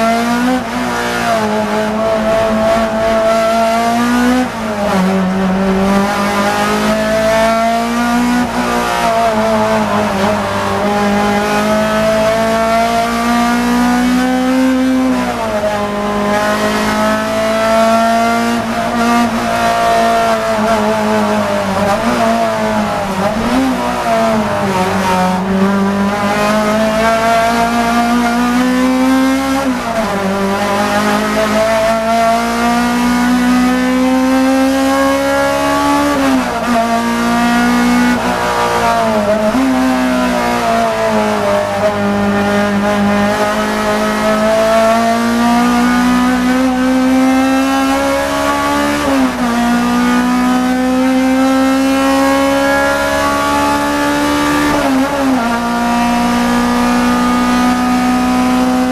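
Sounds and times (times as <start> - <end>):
race car engine accelerating: 0.0 - 58.9.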